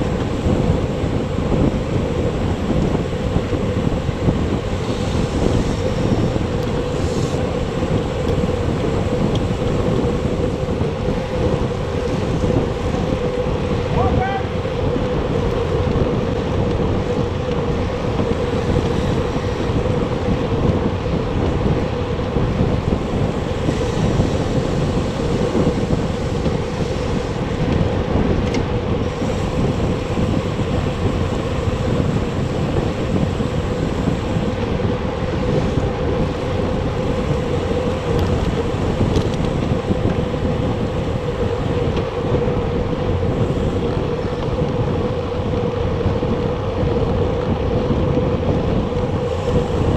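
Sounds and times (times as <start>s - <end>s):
steady hum: 0.0s - 49.9s
wind buffeting microphone: 0.0s - 49.9s.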